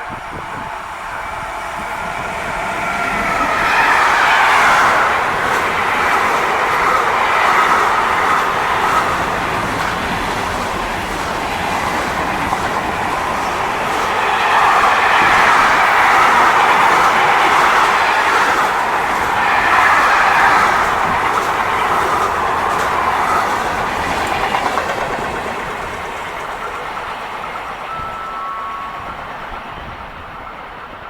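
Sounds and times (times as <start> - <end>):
train wheels rushing on rail: 0.0 - 31.0.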